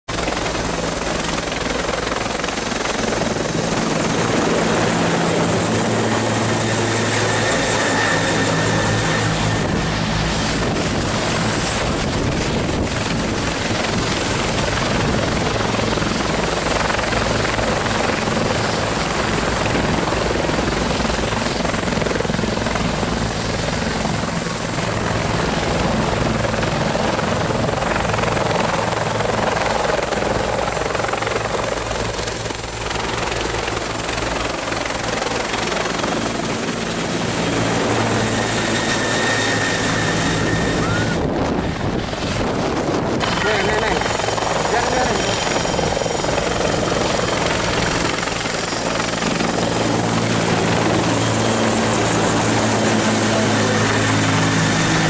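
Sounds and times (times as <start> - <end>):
helicopter rotor and engine: 0.0 - 55.0
high turbine whine: 0.1 - 55.0.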